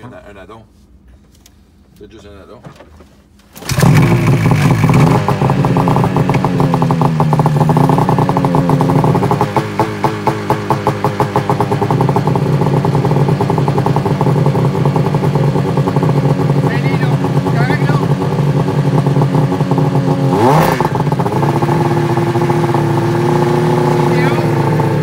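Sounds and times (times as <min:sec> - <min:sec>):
snowmobile engine idling unevenly: 0:03.6 - 0:25.0.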